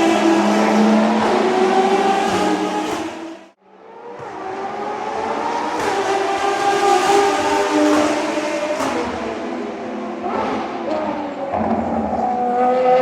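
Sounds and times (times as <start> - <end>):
race car engines at high revs: 0.0 - 13.0.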